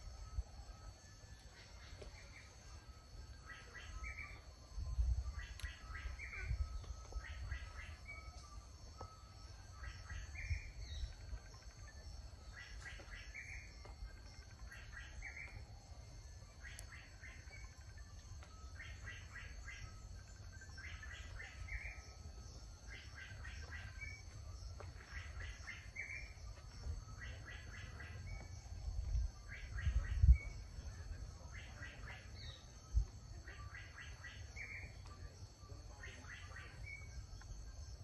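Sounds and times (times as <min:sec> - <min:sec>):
bird chirping song: 0:00.0 - 0:38.0.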